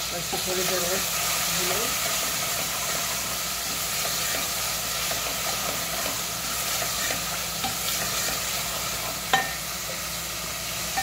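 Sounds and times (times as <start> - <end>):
masala sizzling in oil: 0.0 - 11.0
wooden spoon stirring in pot: 0.2 - 9.5.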